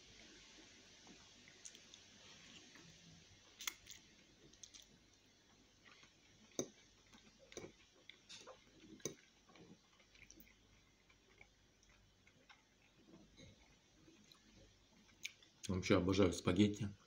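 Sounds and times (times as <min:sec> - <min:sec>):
faint chewing: 0:00.2 - 0:15.7.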